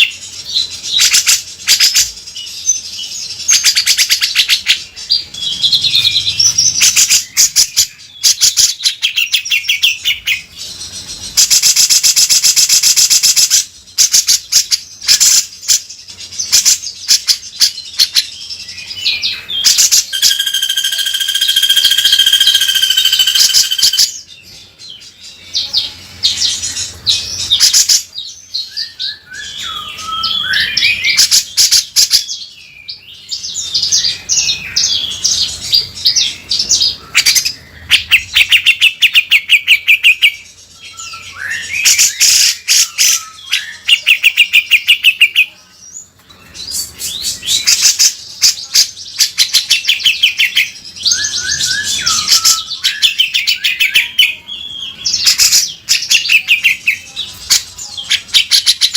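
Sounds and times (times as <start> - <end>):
bird harsh chattering song: 0.0 - 58.9.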